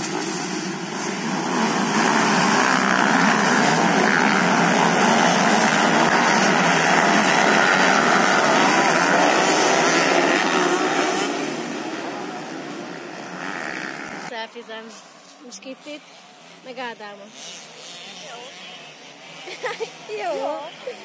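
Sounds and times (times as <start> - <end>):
motocross bike engines racing: 0.0 - 21.0.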